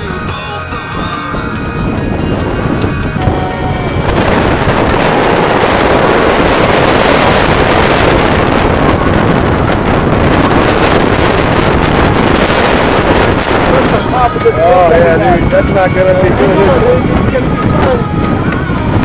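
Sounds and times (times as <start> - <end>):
water rushing along boat hull: 0.0 - 19.0
wind buffeting microphone: 0.0 - 19.0.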